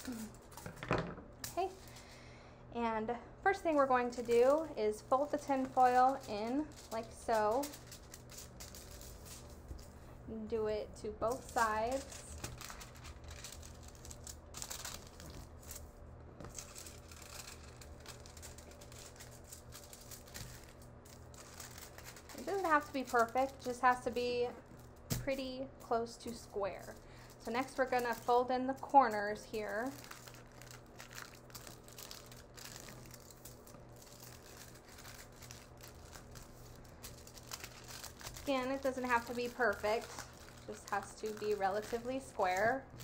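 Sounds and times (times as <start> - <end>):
aluminium foil crinkling: 0.0 - 0.8, 1.4 - 2.2, 3.5 - 43.0.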